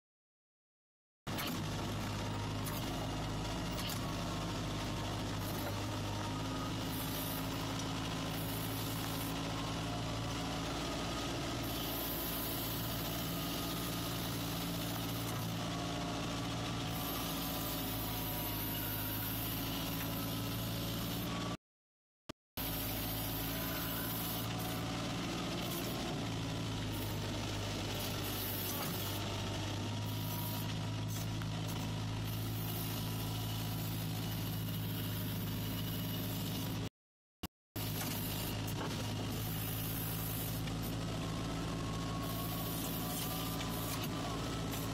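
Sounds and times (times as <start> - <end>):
snowcat engine running: 1.3 - 21.6, 22.6 - 36.9, 37.8 - 44.9.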